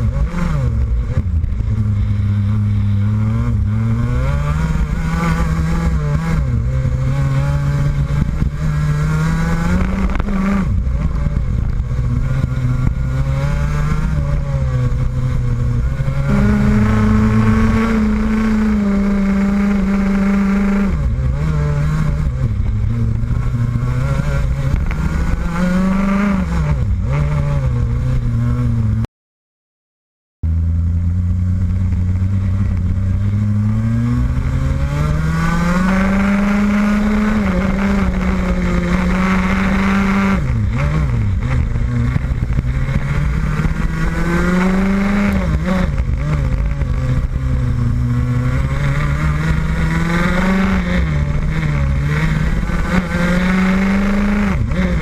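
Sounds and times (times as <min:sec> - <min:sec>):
kart engine at racing speed: 0:00.0 - 0:29.0, 0:30.4 - 0:55.0.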